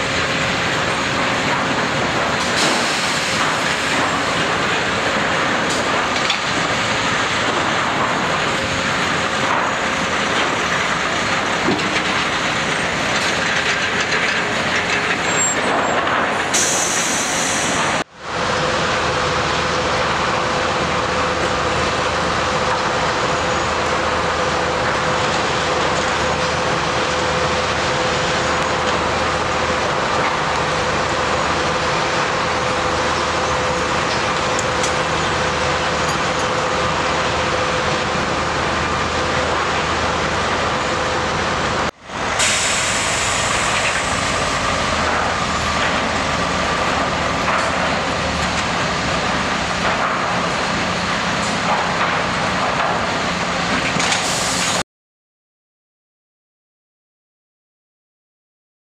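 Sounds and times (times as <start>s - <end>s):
diesel truck engine running: 0.0s - 54.8s.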